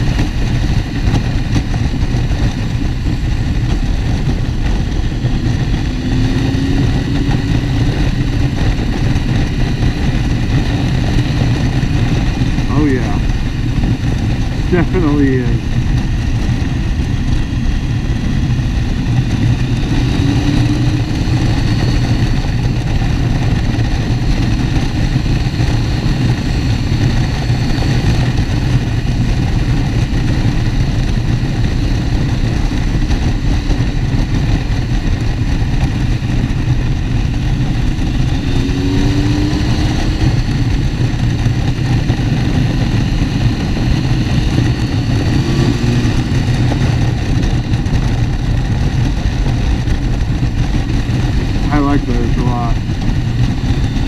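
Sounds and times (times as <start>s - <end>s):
motorcycle engine: 0.0s - 54.0s
wind noise: 0.0s - 54.0s.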